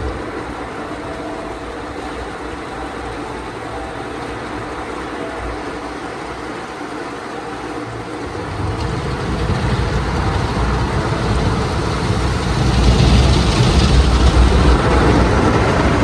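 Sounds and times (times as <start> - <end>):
car wash machine with rushing water: 0.0 - 16.0.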